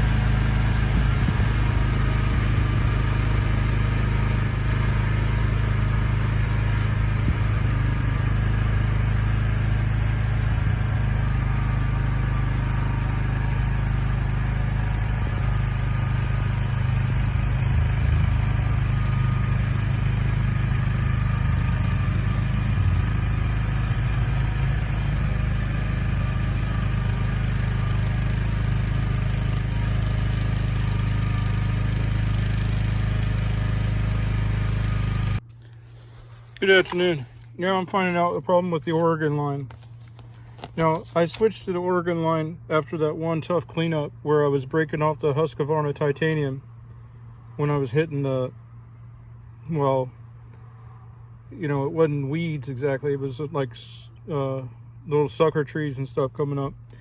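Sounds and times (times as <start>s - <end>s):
loader engine running: 0.0s - 57.0s.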